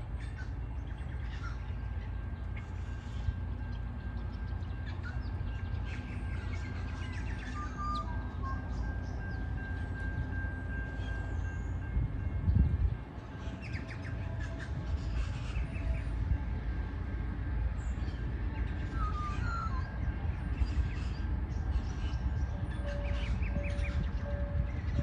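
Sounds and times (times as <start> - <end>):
distant diesel train rumble: 0.0 - 25.0
birds chirping: 0.2 - 25.0.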